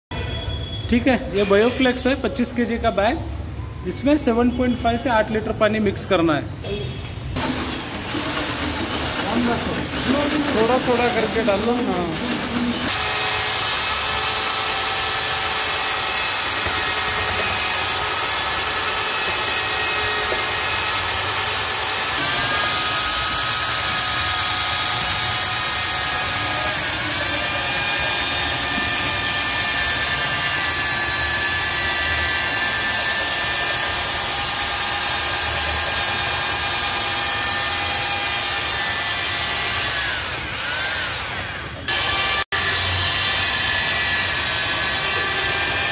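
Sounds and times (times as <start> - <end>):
electric paddle mixer whining: 7.4 - 45.9.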